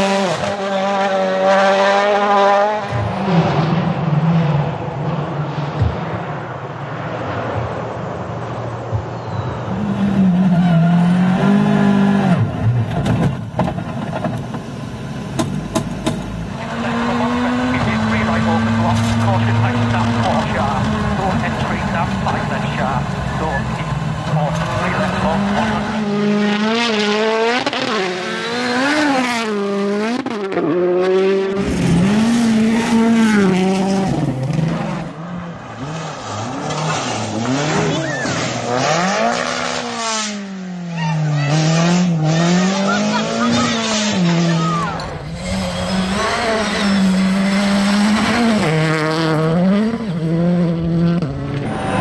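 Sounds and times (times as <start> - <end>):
car engine revving hard: 0.0 - 5.8, 9.7 - 13.0, 15.6 - 52.0.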